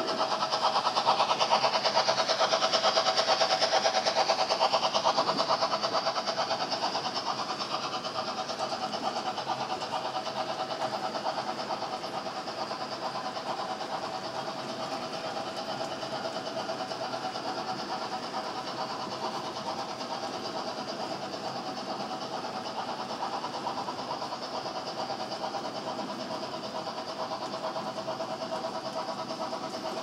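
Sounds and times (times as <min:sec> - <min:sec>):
model trains running on track: 0:00.0 - 0:30.0.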